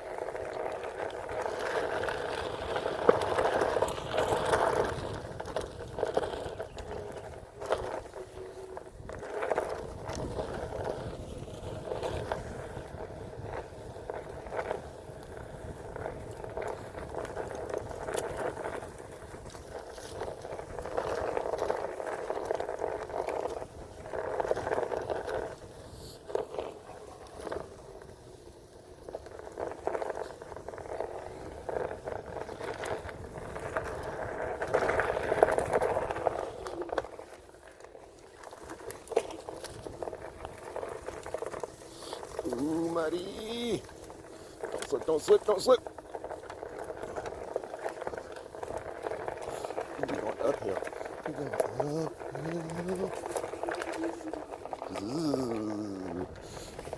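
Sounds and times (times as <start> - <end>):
tyre crackling over dirt: 0.0 - 56.9.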